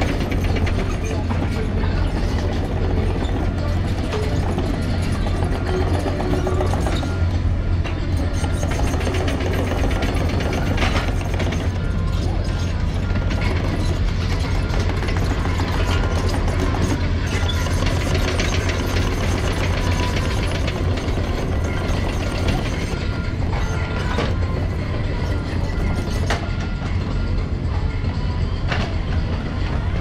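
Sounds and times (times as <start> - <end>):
machine clanks and clicks: 0.0 - 7.2, 7.8 - 26.9
excavator engine humming: 0.0 - 30.0.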